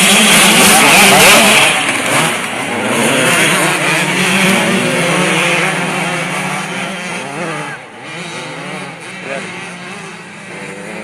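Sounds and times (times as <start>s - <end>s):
motocross motorcycles revving: 0.0s - 11.0s.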